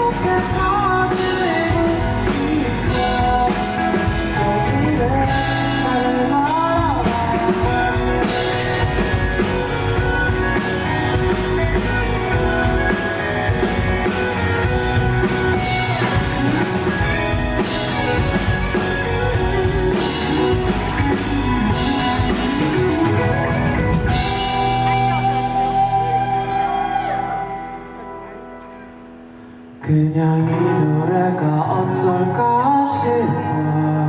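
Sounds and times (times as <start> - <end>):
drum kit playing: 0.0 - 28.5
electric guitars playing: 0.0 - 34.0.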